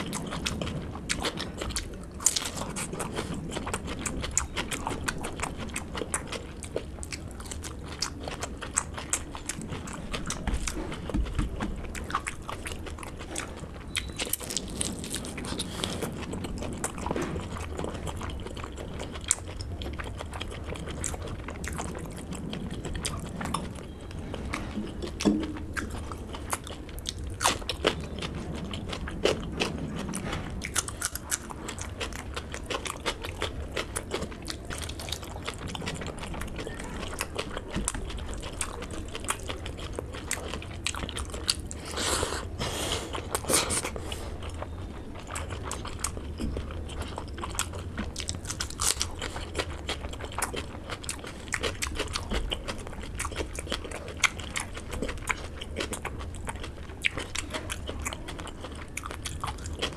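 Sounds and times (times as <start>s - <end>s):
crunchy bites and mouth clicks: 0.0s - 59.9s
man chewing food: 0.0s - 59.9s
steady low hum: 0.0s - 59.9s.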